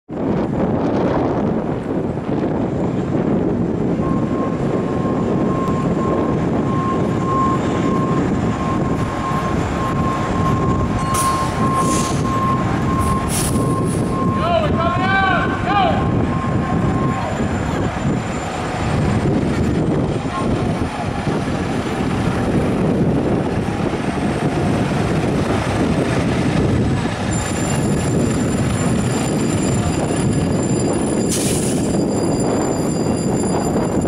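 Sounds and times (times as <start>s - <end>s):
diesel engine rumbling: 0.1s - 34.0s.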